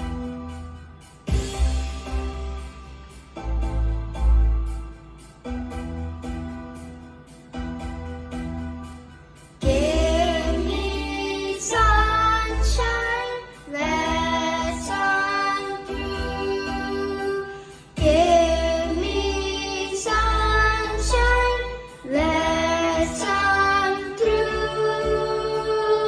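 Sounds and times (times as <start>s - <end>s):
heavy bass: 0.0s - 17.3s, 17.9s - 25.8s
song with sung melody: 0.0s - 26.0s.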